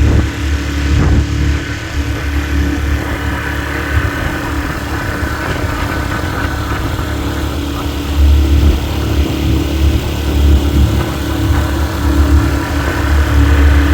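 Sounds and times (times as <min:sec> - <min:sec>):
outboard motor running: 0:00.0 - 0:13.9
wind rumbling on microphone: 0:00.0 - 0:13.9.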